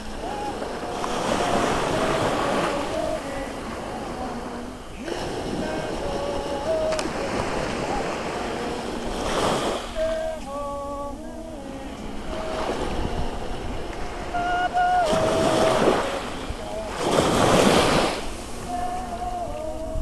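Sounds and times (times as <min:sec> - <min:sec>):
women singing together: 0:00.0 - 0:11.1, 0:11.7 - 0:17.1
surf: 0:00.0 - 0:20.0
wind: 0:00.0 - 0:20.0.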